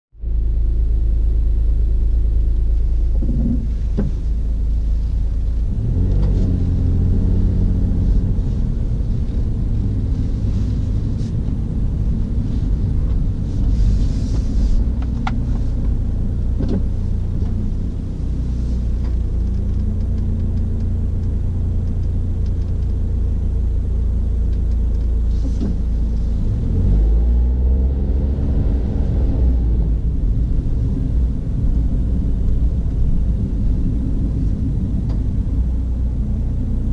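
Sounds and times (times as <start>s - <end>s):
car engine and road rumble: 0.1s - 36.9s.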